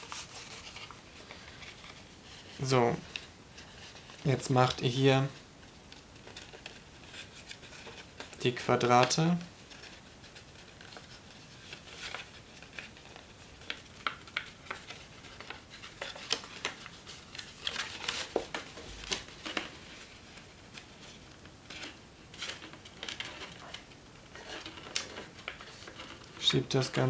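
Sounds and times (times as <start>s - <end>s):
stiff paper crackling and rustling: 0.0s - 27.0s.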